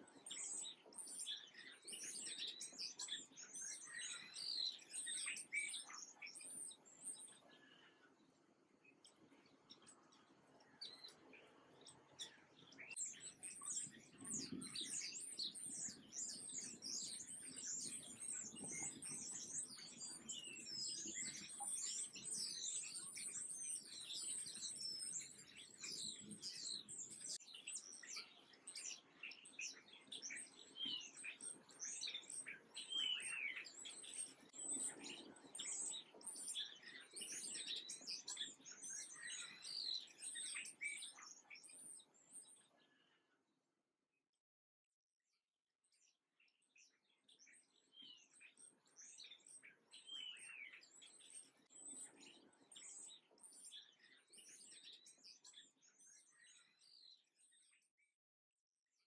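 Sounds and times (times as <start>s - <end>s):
sparrows chirping: 0.0s - 43.2s, 45.9s - 57.9s.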